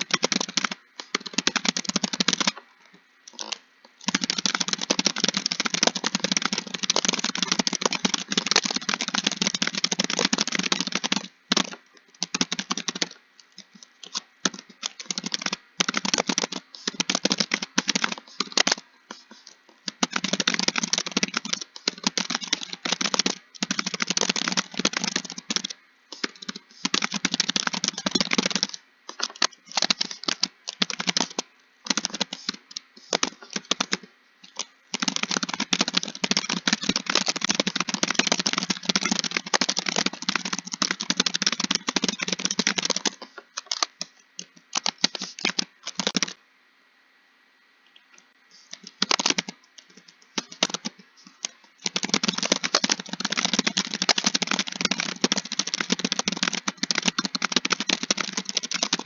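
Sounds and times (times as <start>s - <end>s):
computer keyboard typing: 0.0s - 2.6s, 3.3s - 46.4s, 48.6s - 59.0s.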